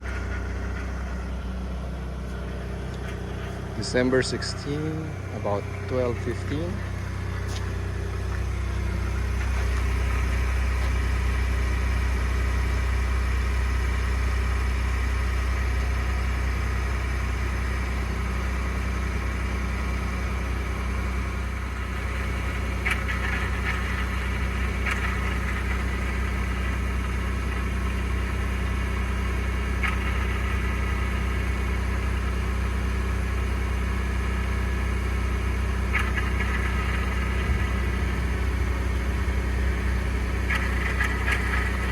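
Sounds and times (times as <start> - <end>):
engine idling with grinding noise: 0.0 - 41.9.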